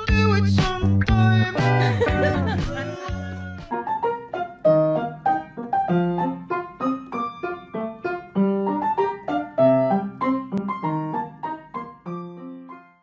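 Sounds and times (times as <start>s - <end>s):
light keyboard melody: 1.4s - 13.0s.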